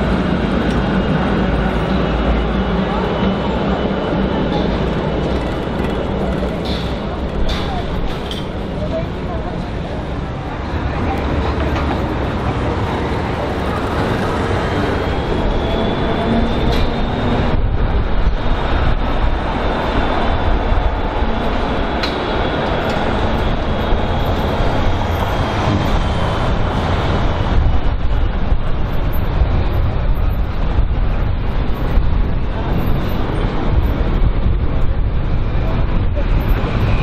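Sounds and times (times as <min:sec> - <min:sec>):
tram wheels rumbling on track: 0:00.0 - 0:37.0.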